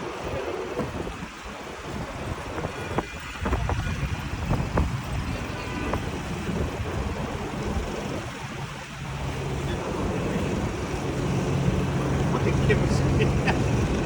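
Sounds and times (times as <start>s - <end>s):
traffic rumble: 0.0s - 14.0s
wind buffeting microphone: 0.0s - 14.0s.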